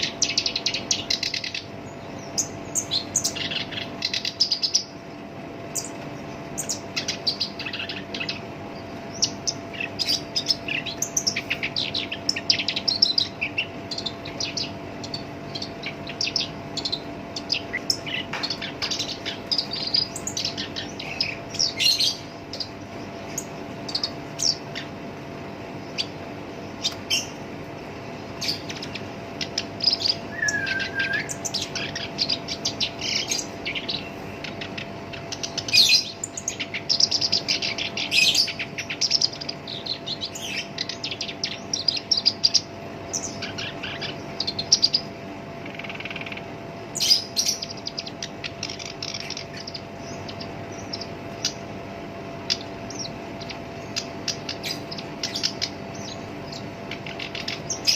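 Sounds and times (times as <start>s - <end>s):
faint steady hum: 0.0s - 57.9s
reed warbler chattering song: 0.0s - 57.9s.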